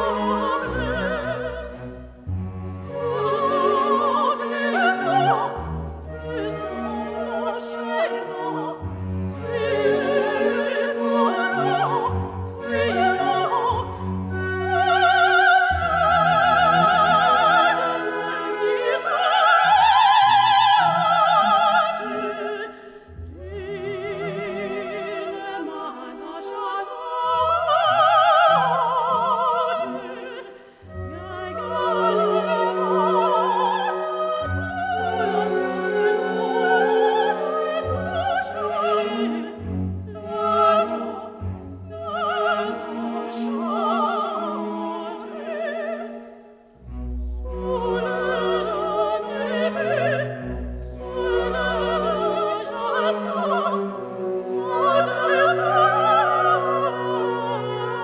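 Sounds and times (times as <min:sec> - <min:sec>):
operatic singing: 0:00.0 - 0:58.0
orchestral strings: 0:00.0 - 0:58.0.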